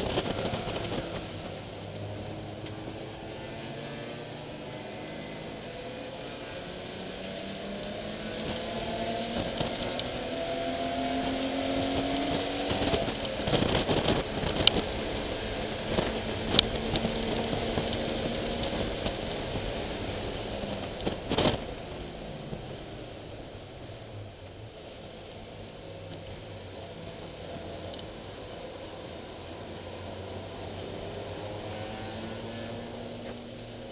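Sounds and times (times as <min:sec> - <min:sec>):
race car engine revving: 0:00.0 - 0:33.9.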